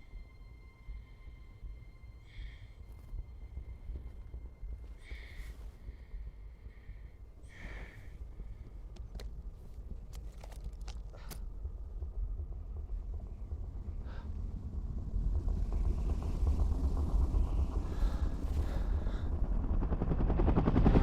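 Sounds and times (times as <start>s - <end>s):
deep rumble: 0.0s - 21.0s.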